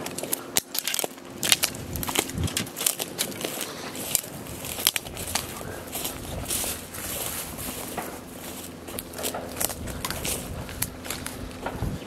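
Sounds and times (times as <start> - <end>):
footsteps through dry vegetation: 0.0 - 12.0.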